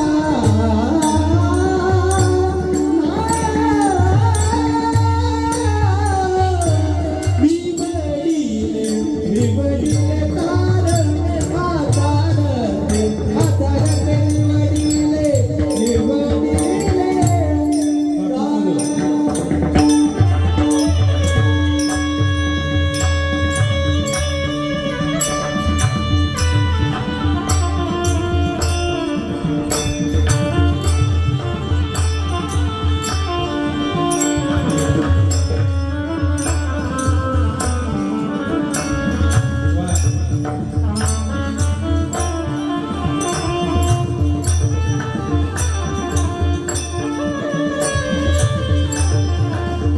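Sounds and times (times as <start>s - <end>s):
man singing long high notes: 0.0s - 40.6s
drums beating: 0.0s - 49.9s
jingling percussion: 0.0s - 49.9s.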